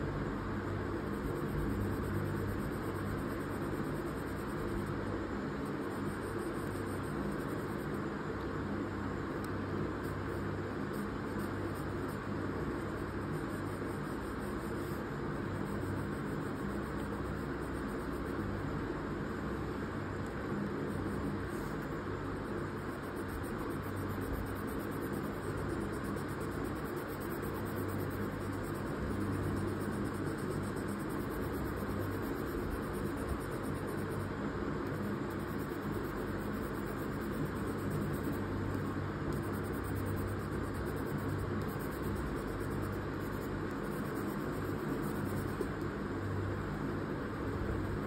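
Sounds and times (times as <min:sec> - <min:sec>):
low hum and hiss: 0:00.0 - 0:48.0.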